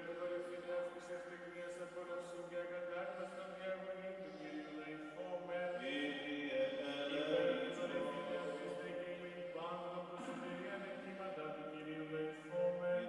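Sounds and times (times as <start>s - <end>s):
cantor chanting: 0.0s - 13.0s.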